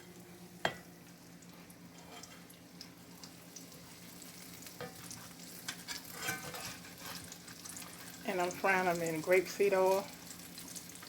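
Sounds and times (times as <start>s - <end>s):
nuggets sizzling in oil: 0.0s - 11.0s.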